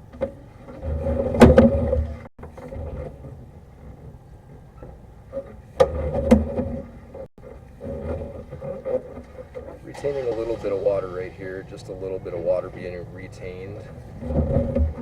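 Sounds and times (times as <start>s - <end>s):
push cable rumbling and scraping: 0.0s - 15.0s.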